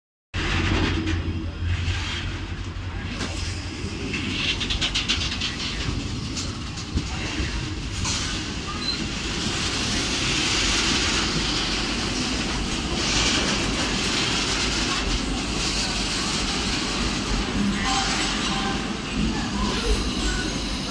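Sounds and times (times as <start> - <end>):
wagon wheels rumbling on rail: 0.4 - 20.9.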